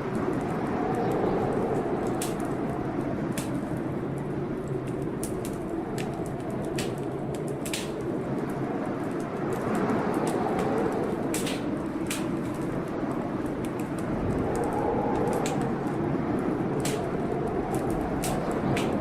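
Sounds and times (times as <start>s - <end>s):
fireplace fire crackling: 0.0s - 19.0s
low storm noise: 0.0s - 19.0s.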